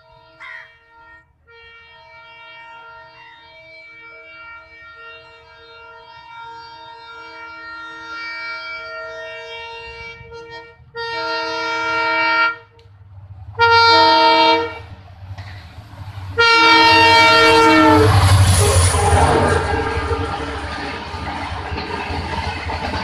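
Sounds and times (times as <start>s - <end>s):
locomotive air horn blasts: 0.0s - 12.9s, 13.5s - 21.9s
train engine and wheels rumbling: 0.0s - 23.0s.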